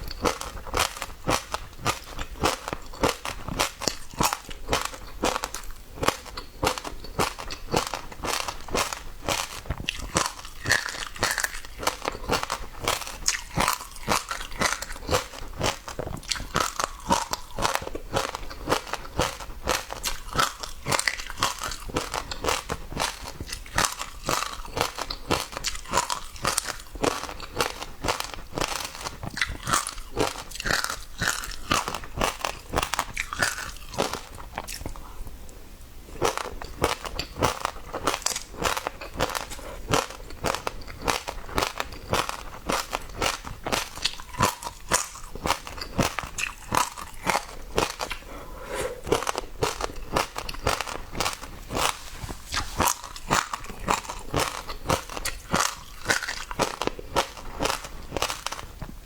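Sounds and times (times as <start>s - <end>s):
seeds being chewed: 0.0s - 35.1s, 36.1s - 59.0s.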